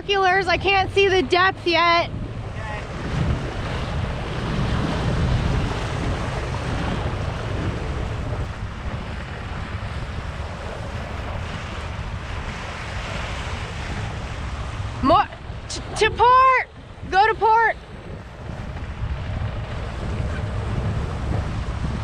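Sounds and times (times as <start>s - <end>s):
water rushing past hull: 0.0s - 22.0s
wind buffeting microphone: 0.0s - 22.0s.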